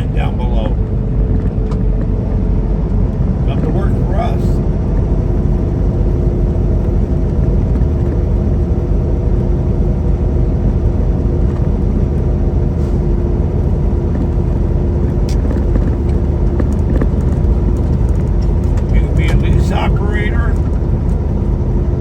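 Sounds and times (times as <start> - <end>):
constant hum: 0.0 - 22.0
road rumble: 0.0 - 22.0
truck engine drone: 0.0 - 22.0.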